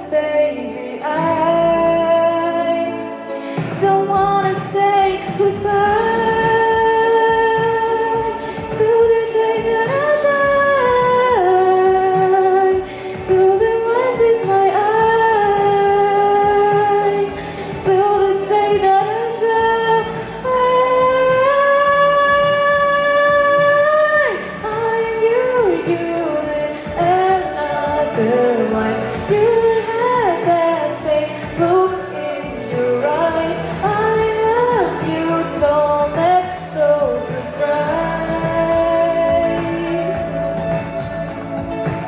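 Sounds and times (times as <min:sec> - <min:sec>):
girl singing wordless notes: 0:00.0 - 0:40.8
pop backing track: 0:00.0 - 0:42.0.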